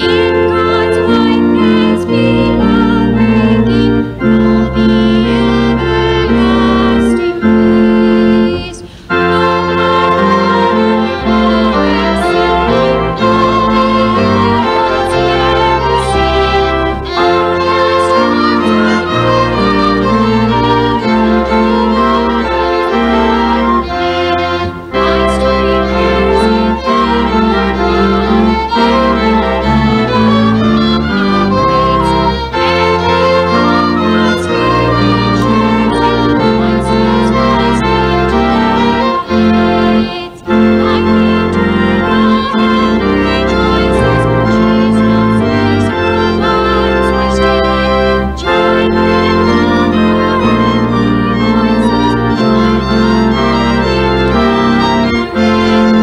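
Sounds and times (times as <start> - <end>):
instrumental music with held notes: 0.0 - 56.0
organ playing sustained chords: 0.0 - 56.0.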